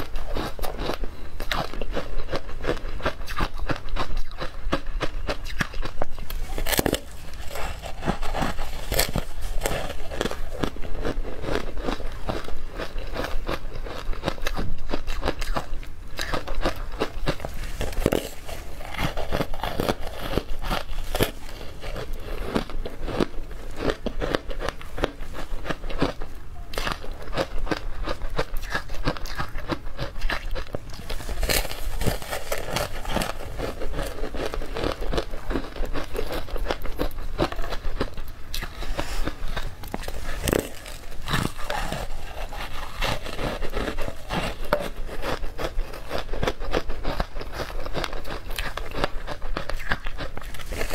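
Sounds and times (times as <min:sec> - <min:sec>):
ice crunching while chewed: 0:00.0 - 0:50.9.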